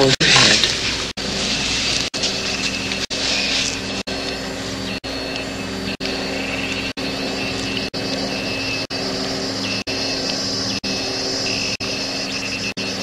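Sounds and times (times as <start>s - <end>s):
droning hum with held tones: 0.0s - 13.0s.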